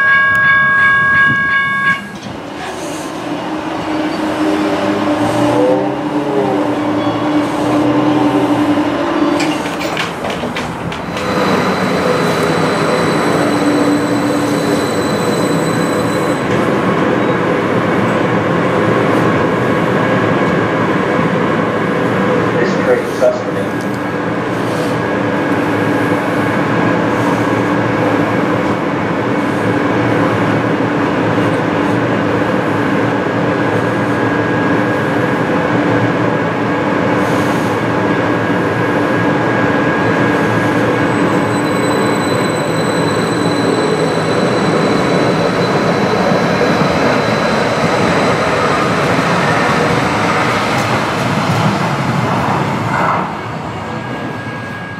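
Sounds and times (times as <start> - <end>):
train pulling away with whine: 0.0 - 54.9.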